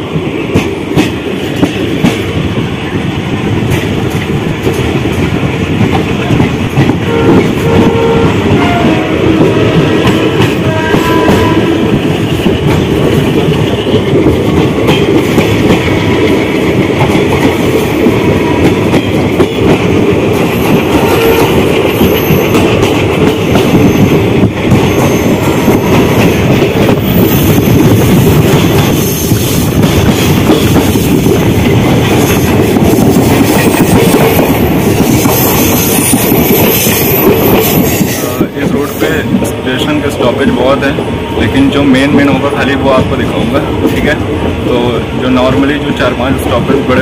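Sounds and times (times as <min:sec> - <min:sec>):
clickety-clack over rail joints: 0:00.0 - 0:47.0
train wheels rumbling on rails: 0:00.0 - 0:47.0.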